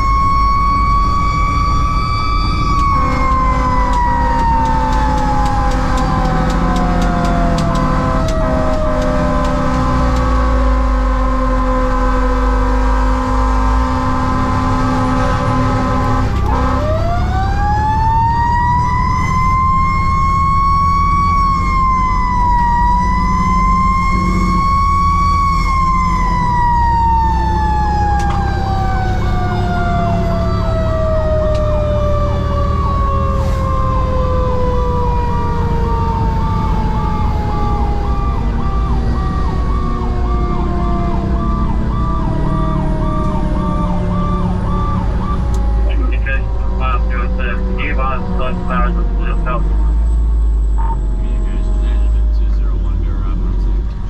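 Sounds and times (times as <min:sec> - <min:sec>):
fire engine siren: 0:00.0 - 0:53.7
fire engine running: 0:00.0 - 0:54.0.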